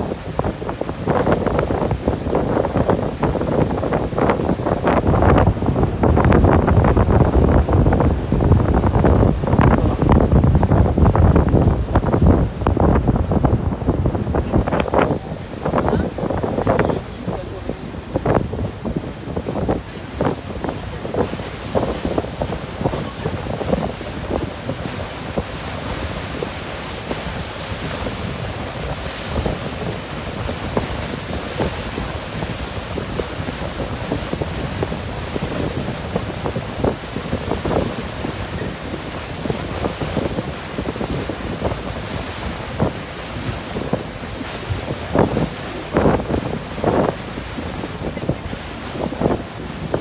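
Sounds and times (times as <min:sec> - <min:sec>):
sea rushing: 0:00.0 - 0:50.0
wind buffeting microphone: 0:00.0 - 0:50.0.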